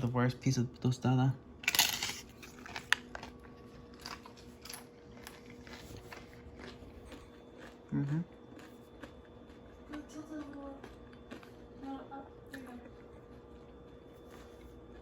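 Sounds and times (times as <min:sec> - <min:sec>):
crunchy chewing: 0:02.1 - 0:15.0.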